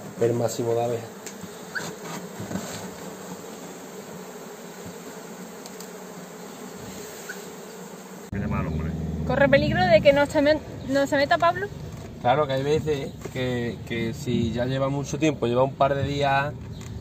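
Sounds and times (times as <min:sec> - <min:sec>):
bees buzzing: 0:00.0 - 0:15.7.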